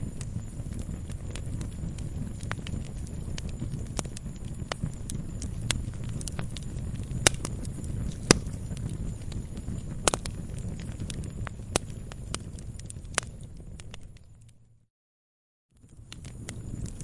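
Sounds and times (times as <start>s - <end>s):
fire pops and snaps: 0.0s - 14.6s, 15.8s - 17.0s
low rumble of flames: 0.0s - 14.9s, 15.7s - 17.0s.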